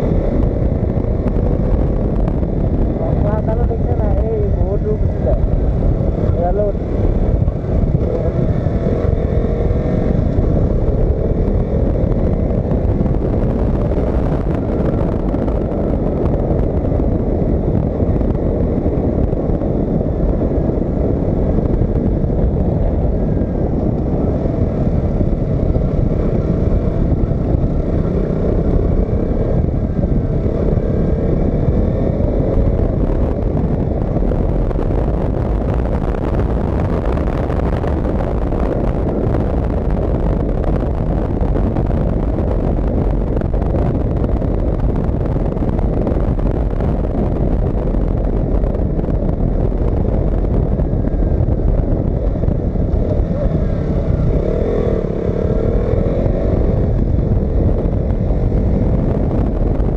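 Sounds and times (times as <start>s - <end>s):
motorcycle engine running: 0.0s - 59.9s
wind rush on camera: 0.0s - 59.9s.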